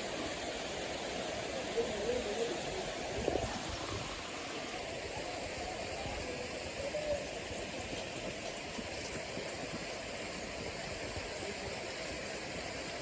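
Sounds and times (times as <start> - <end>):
water rushing from waterfall: 0.0 - 13.0.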